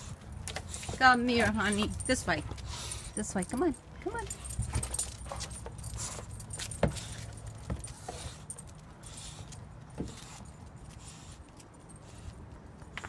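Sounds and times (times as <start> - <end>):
dog collar jingling: 0.2 - 12.8.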